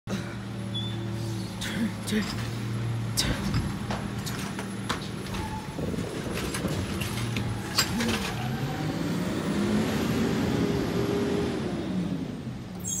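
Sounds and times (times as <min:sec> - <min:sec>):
garbage truck engine revving: 0:00.9 - 0:13.0.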